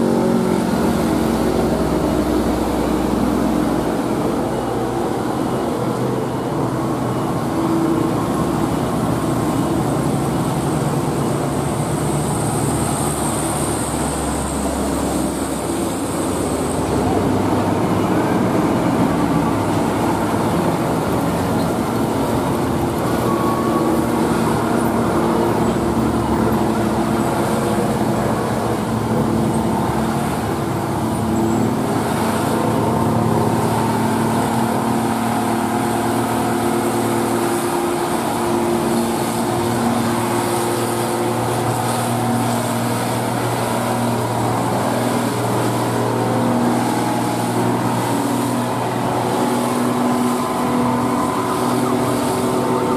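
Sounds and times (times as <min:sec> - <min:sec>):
diesel engine under load: 0:00.0 - 0:52.9
passing car traffic: 0:00.0 - 0:52.9.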